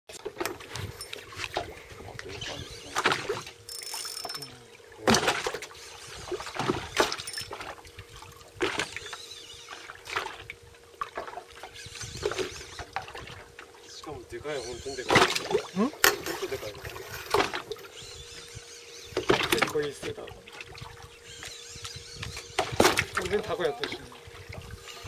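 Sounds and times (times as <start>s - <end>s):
water splashing against boat hull: 0.1s - 13.8s, 15.1s - 17.9s, 19.2s - 21.2s, 22.5s - 25.0s
faint steady hum: 0.1s - 25.0s.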